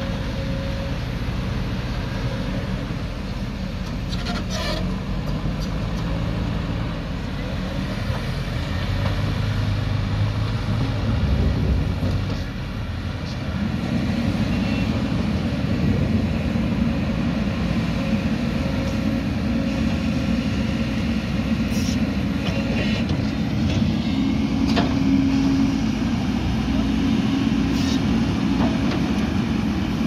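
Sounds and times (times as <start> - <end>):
diesel engines droning: 0.0 - 30.0.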